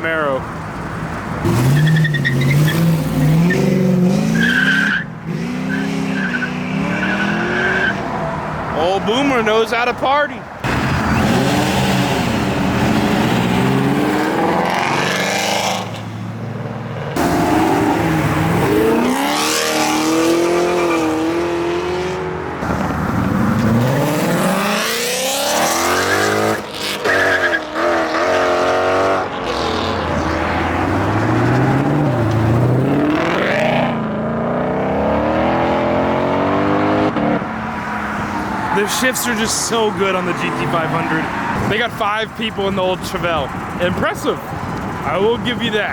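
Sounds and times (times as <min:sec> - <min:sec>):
cars accelerating hard: 0:00.0 - 0:09.6, 0:10.5 - 0:45.9.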